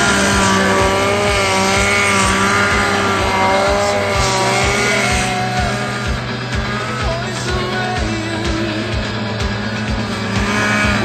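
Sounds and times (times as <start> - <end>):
snowmobile engine revving high: 0.0 - 11.0.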